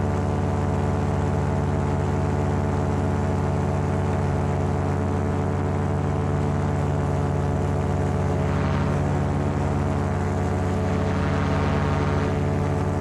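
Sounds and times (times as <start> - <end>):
paramotor engine droning: 0.0 - 13.0.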